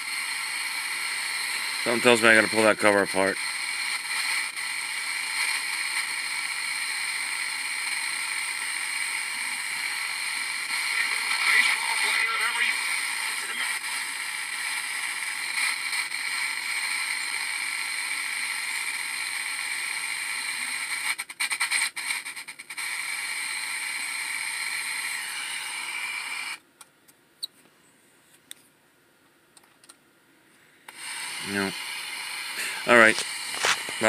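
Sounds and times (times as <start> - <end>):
static hiss with steady tones: 0.0 - 34.0.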